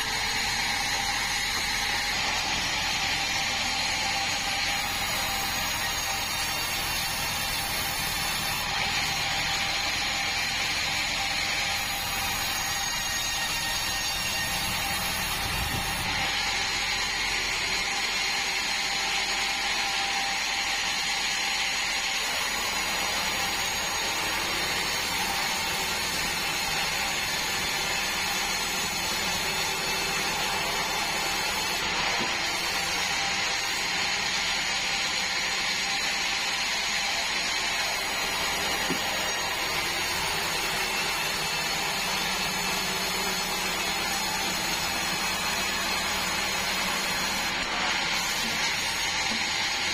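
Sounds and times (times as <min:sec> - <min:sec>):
band sawmill whining: 0:00.0 - 0:49.9.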